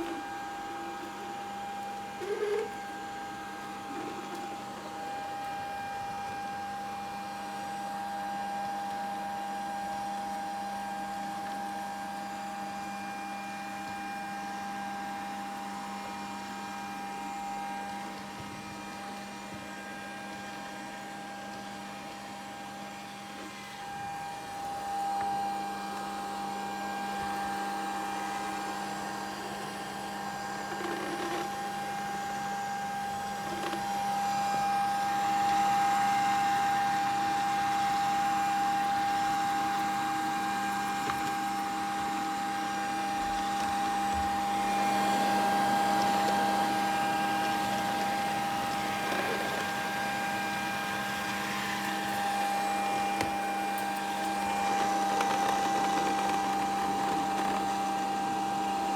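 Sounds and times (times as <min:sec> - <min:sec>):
robot vacuum motor whine: 0:00.0 - 0:58.9.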